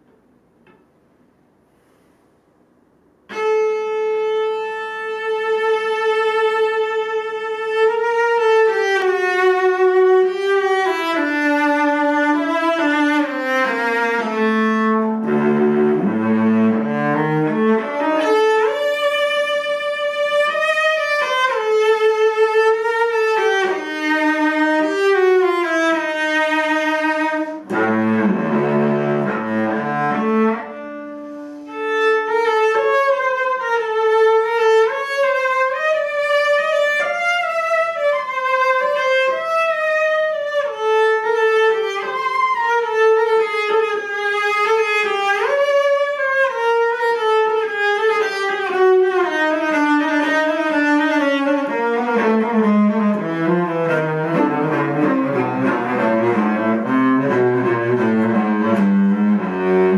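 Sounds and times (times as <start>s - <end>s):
bowed cello: 3.2s - 59.9s.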